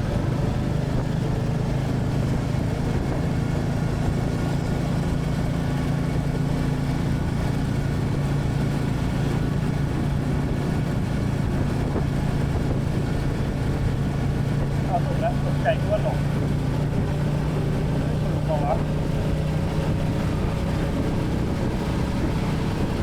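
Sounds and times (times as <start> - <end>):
single-cylinder motorcycle engine running: 0.0 - 23.0.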